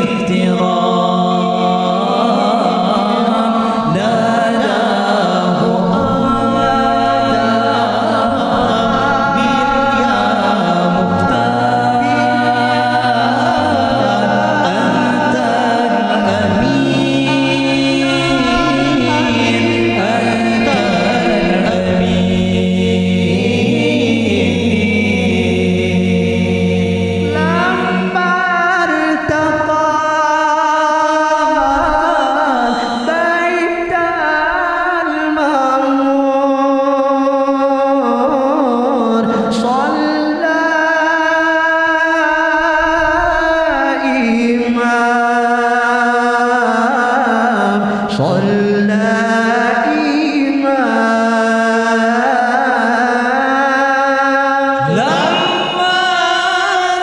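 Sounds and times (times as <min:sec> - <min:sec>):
men chanting through microphones: 0:00.0 - 0:57.0.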